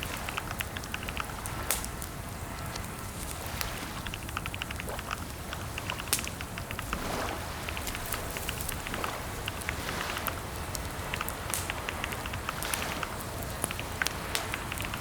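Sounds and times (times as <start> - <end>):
keyboard typing: 0.0 - 1.4, 3.7 - 15.0.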